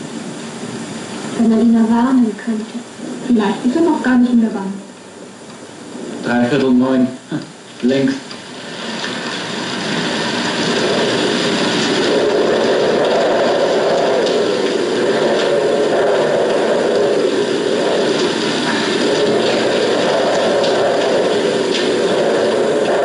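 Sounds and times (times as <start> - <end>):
storm wind howling: 0.0 - 23.0.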